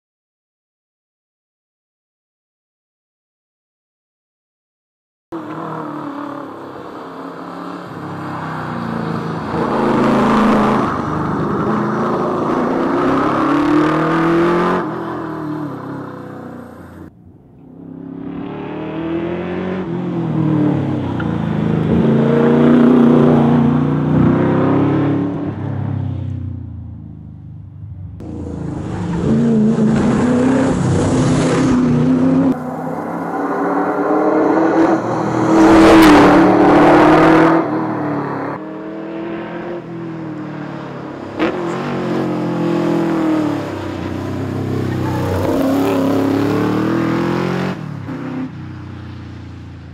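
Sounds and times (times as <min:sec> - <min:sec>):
car engine revving: 0:05.4 - 0:26.0, 0:26.7 - 0:48.6.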